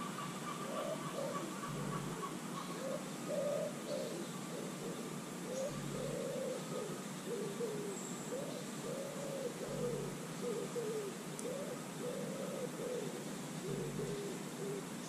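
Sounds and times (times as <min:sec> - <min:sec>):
pigeon cooing: 0:00.0 - 0:15.0
steady background hiss: 0:00.0 - 0:15.0.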